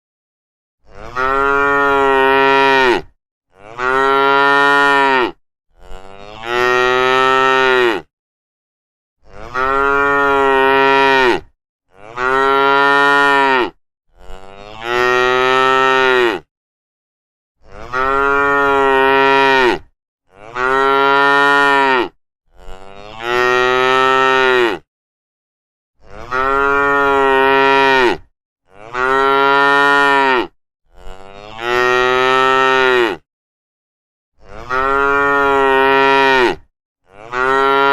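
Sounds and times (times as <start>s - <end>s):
cows mooing: 0.8s - 8.1s, 9.2s - 16.5s, 17.8s - 19.8s, 20.5s - 24.8s, 26.1s - 33.2s, 34.5s - 37.9s.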